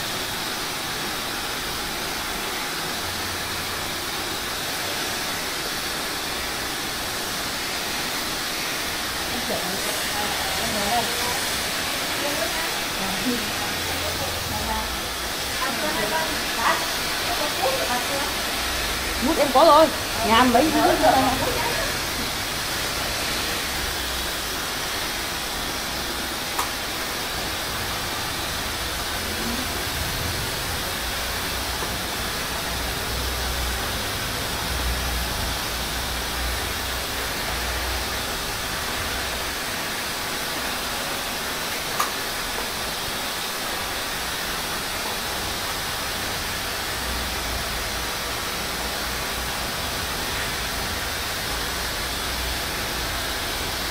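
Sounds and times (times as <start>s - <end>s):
hair dryer blowing: 0.0s - 53.9s.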